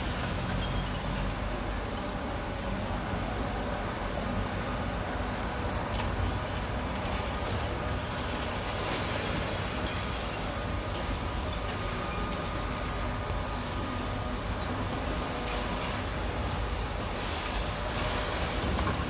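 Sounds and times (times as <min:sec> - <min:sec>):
excavator engine and hydraulics rumble: 0:00.0 - 0:19.0
faint steady whine: 0:00.6 - 0:19.0.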